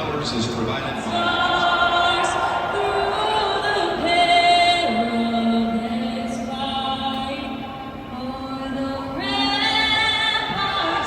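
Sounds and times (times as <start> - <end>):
voices singing over loudspeakers: 0.0 - 11.0.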